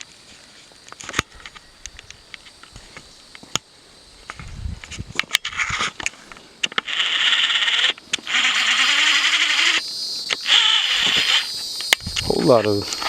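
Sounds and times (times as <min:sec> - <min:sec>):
cicada buzzing: 0:00.0 - 0:13.0.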